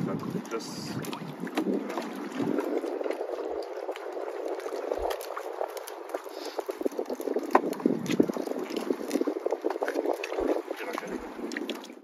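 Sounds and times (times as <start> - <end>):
water bubbling and splashing: 0.0 - 12.0.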